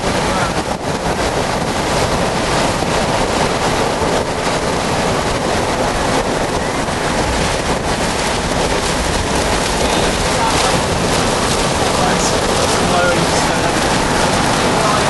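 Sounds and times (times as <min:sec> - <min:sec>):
car road and engine noise: 0:00.0 - 0:15.0
wind buffeting microphone: 0:00.0 - 0:15.0.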